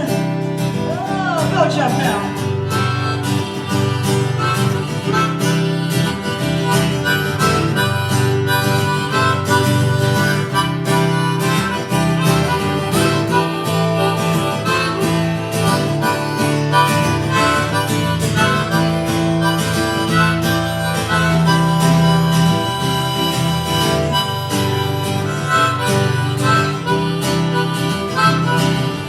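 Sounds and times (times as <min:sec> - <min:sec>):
harmonica solo: 0:00.0 - 0:29.0
strummed acoustic guitar: 0:00.0 - 0:29.0.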